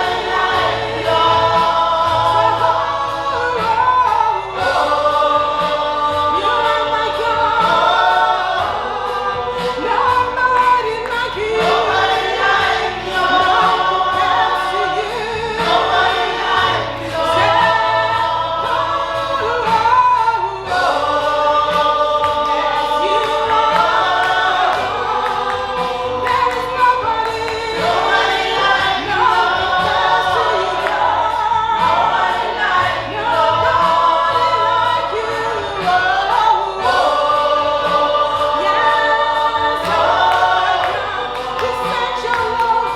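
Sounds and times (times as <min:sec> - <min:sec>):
gospel choir singing: 0:00.0 - 0:42.9
steady beat: 0:00.0 - 0:42.9.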